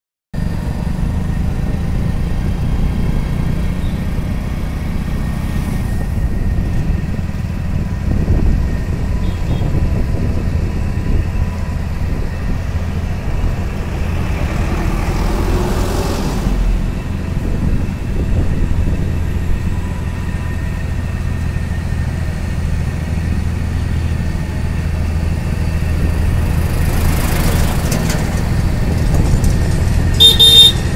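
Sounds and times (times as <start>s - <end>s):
motorcycle engine droning: 0.4s - 30.9s
road and wind noise: 0.4s - 30.9s
vehicles passing by: 0.4s - 30.9s.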